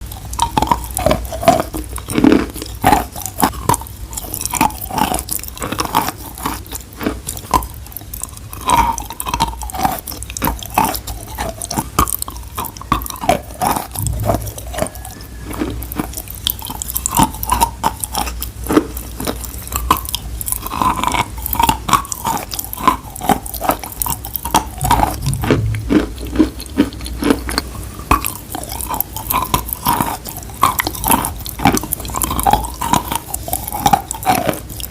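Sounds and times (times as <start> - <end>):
wet crunchy mouth sounds: 0.0 - 34.9.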